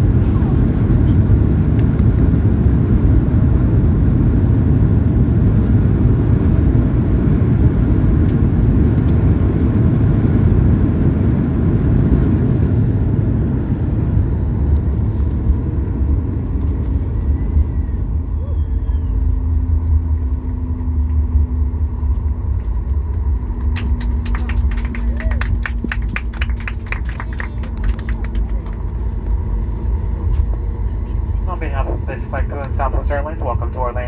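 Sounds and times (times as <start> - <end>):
airplane cabin engine rumble: 0.0 - 34.0.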